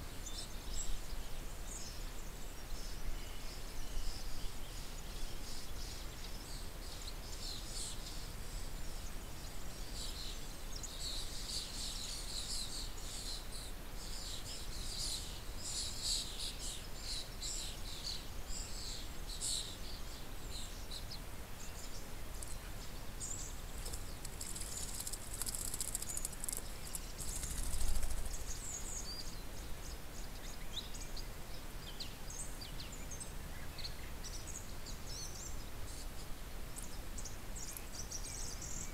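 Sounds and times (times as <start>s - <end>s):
low background hiss: 0.0s - 38.9s
birds chirping: 0.2s - 38.9s.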